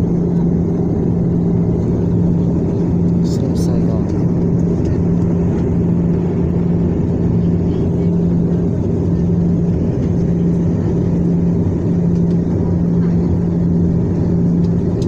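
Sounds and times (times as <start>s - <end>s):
airliner engines roaring: 0.0s - 15.0s
steady low hum: 0.0s - 15.0s.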